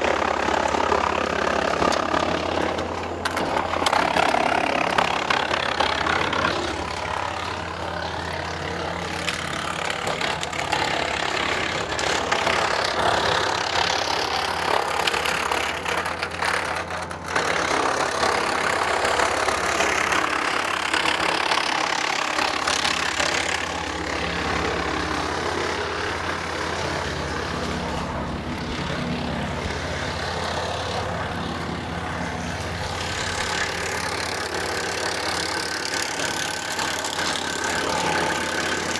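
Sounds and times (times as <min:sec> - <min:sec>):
engine and flywheel hum: 0:00.0 - 0:38.9
wood chipper chipping branches: 0:00.0 - 0:38.9.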